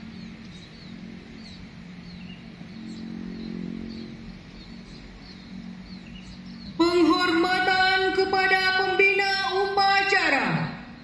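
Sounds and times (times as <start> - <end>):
low motor hum: 0.0 - 11.0
small birds chirping: 0.0 - 11.0.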